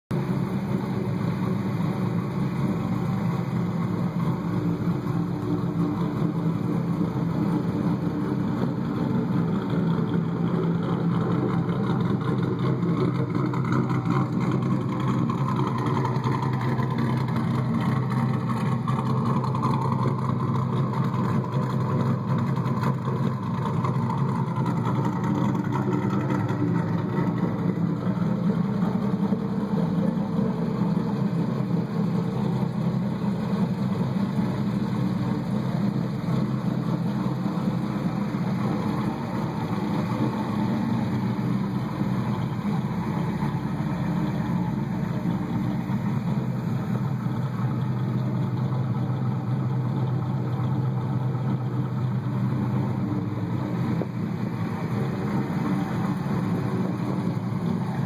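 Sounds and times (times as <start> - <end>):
car engine idling: 0.1 - 58.0.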